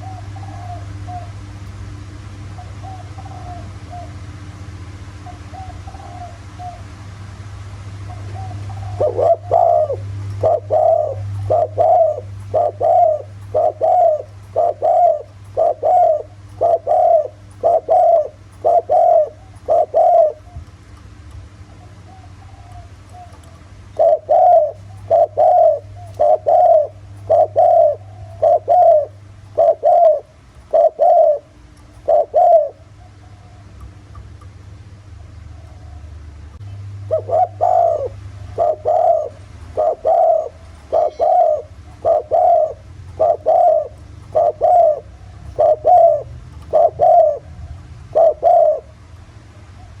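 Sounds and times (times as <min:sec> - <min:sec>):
dove cooing: 0:00.0 - 0:50.0
low hum: 0:00.0 - 0:50.0.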